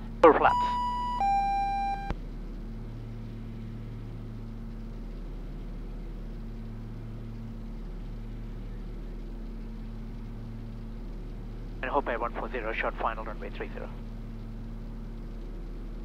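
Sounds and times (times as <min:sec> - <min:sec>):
aircraft engines droning in cabin: 0:00.0 - 0:16.0.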